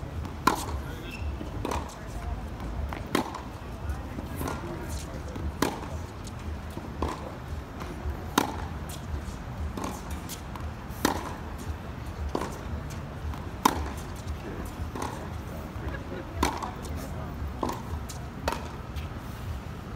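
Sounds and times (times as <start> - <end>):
racket hitting tennis ball: 0.2 - 19.0.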